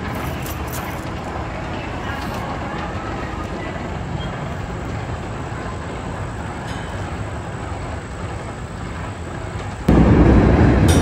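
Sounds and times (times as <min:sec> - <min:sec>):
roller coaster rumble: 0:00.0 - 0:11.0.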